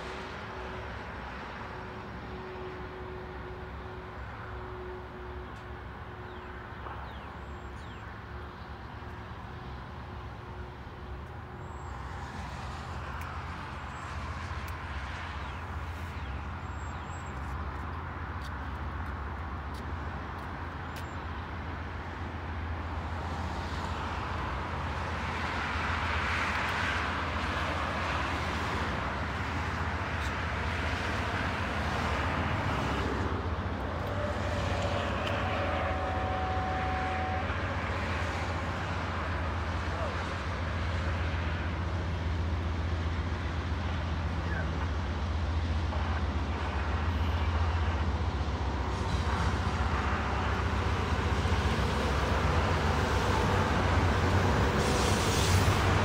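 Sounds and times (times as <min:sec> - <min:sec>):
train wheel and rail noise: 0:00.0 - 0:56.0.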